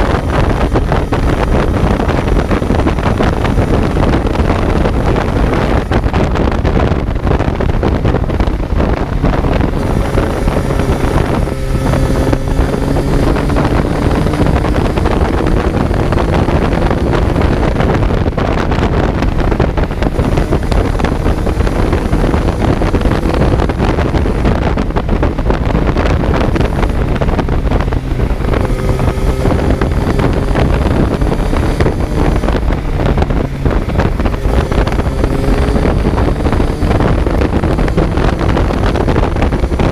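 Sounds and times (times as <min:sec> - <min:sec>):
motorcycle engine at speed: 0:00.0 - 0:39.9
wind buffeting microphone: 0:00.0 - 0:39.9.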